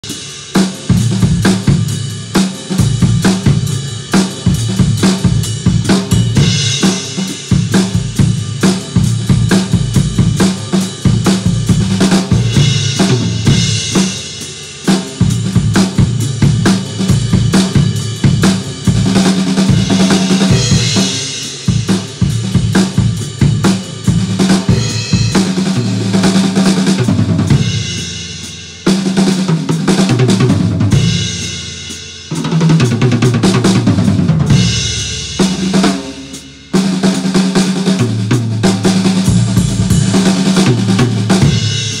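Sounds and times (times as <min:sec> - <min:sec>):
bass drum: 0:00.0 - 0:42.0
cymbals: 0:00.0 - 0:42.0
drum kit playing a groove: 0:00.0 - 0:42.0
snare drum: 0:00.0 - 0:42.0.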